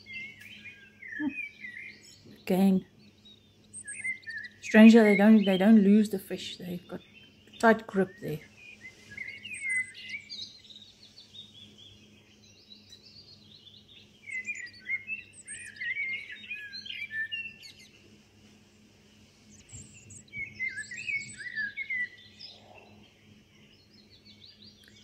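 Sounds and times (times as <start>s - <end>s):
birds chirping and warbling: 0.0s - 25.0s.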